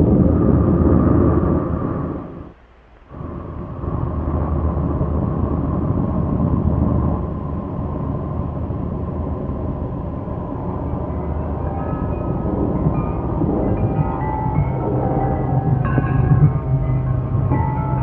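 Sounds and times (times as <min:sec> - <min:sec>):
low hum: 0:00.0 - 0:18.0
steady low rumble: 0:00.0 - 0:18.0.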